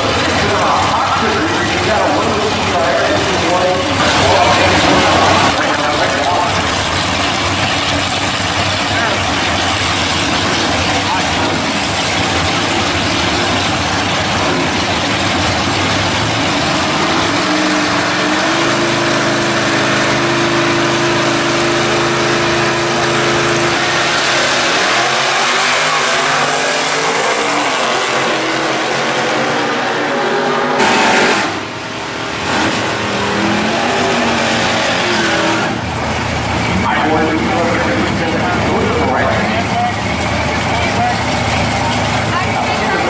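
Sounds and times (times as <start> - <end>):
drag car engines revving: 0.0 - 43.0.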